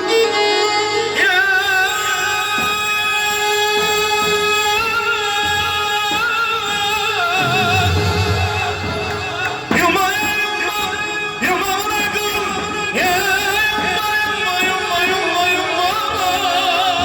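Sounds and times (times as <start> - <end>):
instrumental backing: 1.2 - 17.0.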